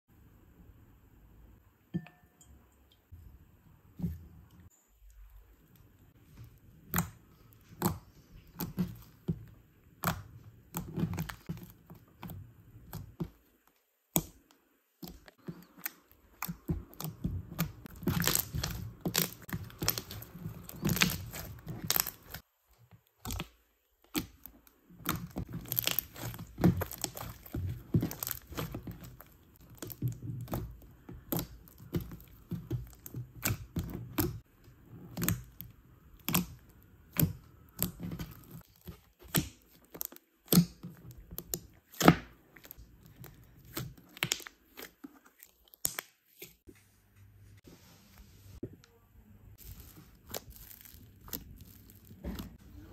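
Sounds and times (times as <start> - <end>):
slime crackling and popping: 5.7 - 13.4, 14.0 - 46.6, 49.6 - 52.6.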